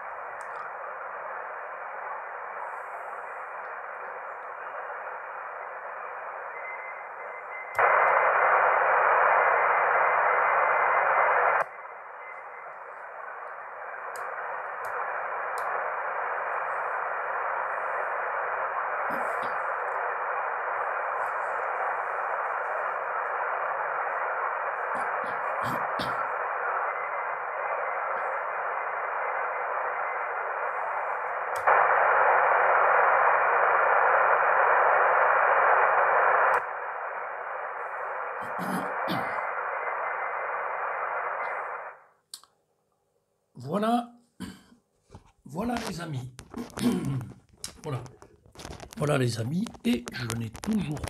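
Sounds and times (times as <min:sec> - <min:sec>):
shortwave receiver hiss: 0:00.0 - 0:42.5, 0:45.1 - 0:51.0.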